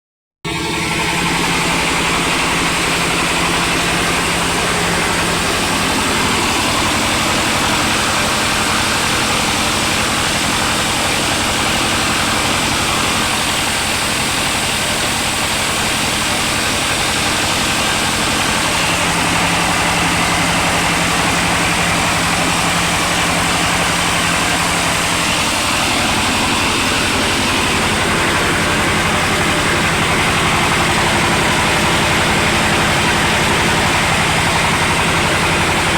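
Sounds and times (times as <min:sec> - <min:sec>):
extruder machine drone: 0:00.5 - 0:35.9.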